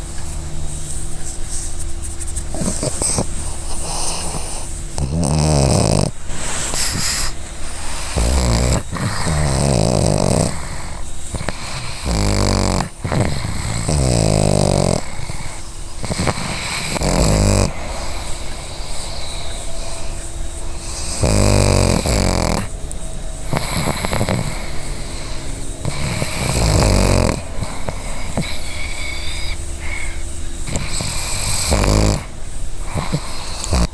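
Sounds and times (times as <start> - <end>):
dog snoring: 2.4 - 33.9.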